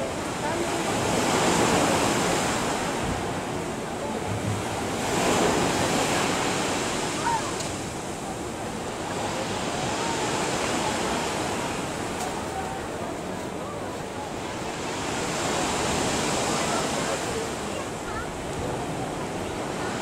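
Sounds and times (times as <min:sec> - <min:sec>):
sea waves lapping: 0:00.0 - 0:20.0.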